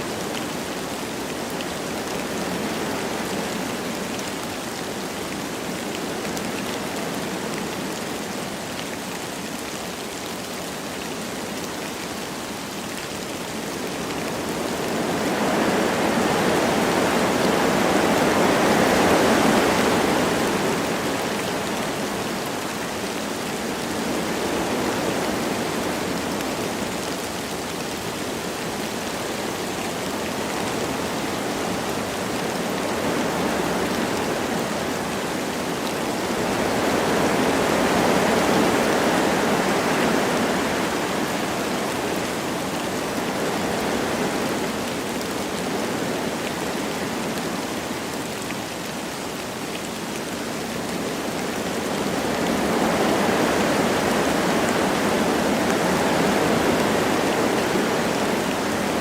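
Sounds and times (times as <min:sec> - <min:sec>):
light rain falling: 0:00.0 - 0:59.0
wind through forest trees: 0:00.0 - 0:59.0.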